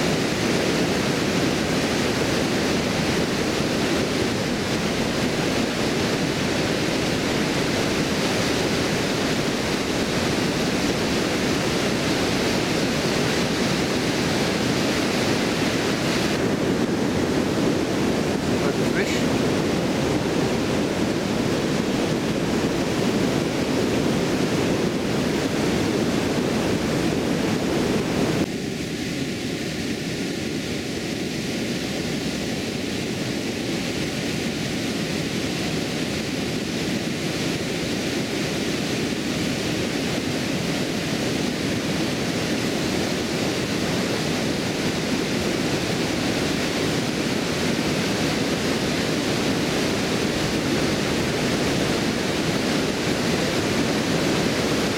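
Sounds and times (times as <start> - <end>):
water rushing over a weir: 0.0 - 54.9.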